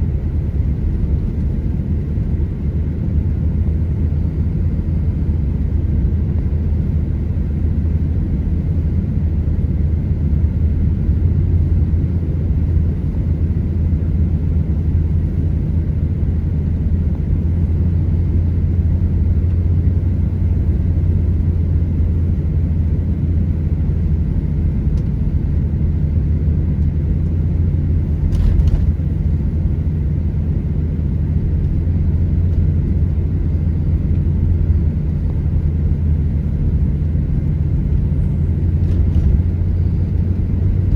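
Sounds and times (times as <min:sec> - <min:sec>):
car driving on snow: 0:00.0 - 0:40.9.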